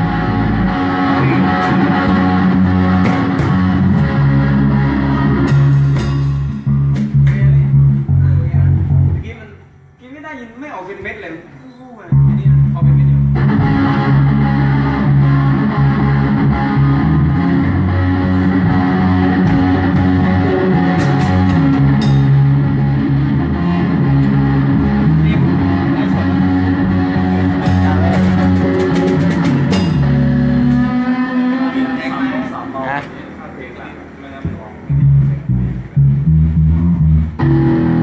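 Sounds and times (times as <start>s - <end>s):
live rock band playing: 0.0s - 9.2s, 12.2s - 33.2s, 34.9s - 38.0s.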